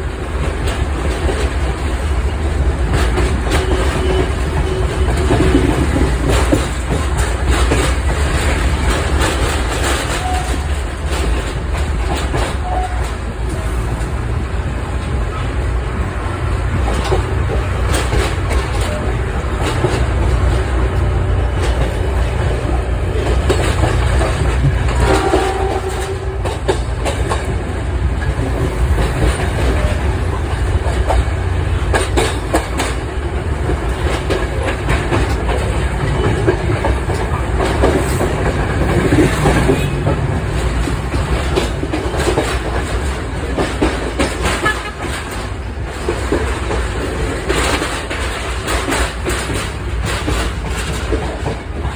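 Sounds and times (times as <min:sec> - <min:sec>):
train rumbling: 0:00.0 - 0:51.9
wheels clattering over rail joints: 0:00.0 - 0:51.9.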